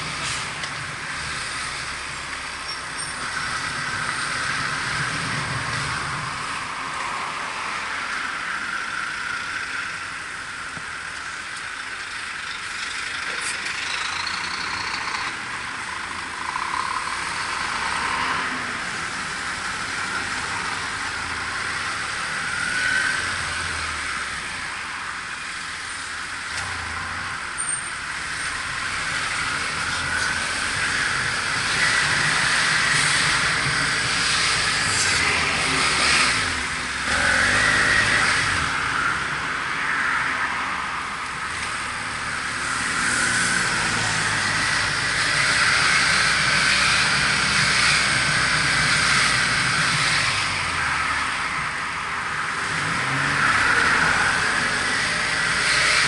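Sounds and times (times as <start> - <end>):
passing vehicles: 0.0 - 56.0
road noise: 0.0 - 56.0.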